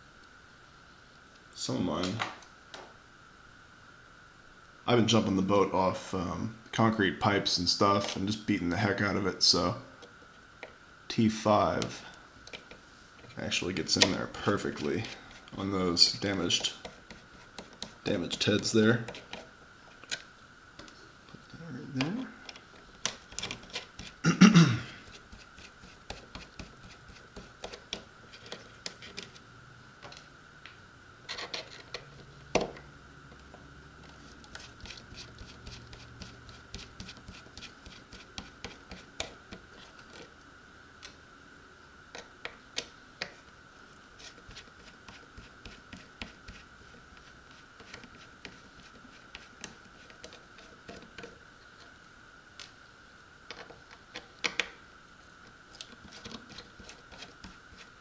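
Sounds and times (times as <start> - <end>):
faint high whine: 0.0 - 58.0.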